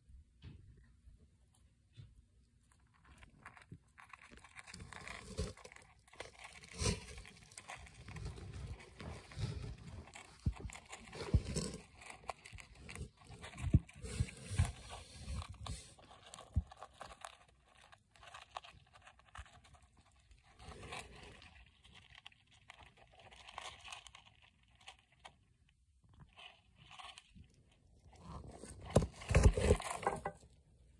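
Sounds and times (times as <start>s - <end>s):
scrapes and rustles: 1.5s - 30.6s
hamster crunching seeds: 1.5s - 30.9s.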